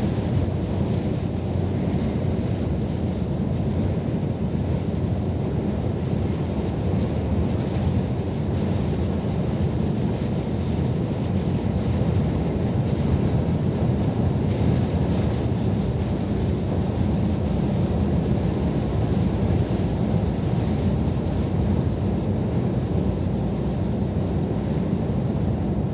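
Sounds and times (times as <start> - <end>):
truck engine and road drone: 0.0 - 25.9.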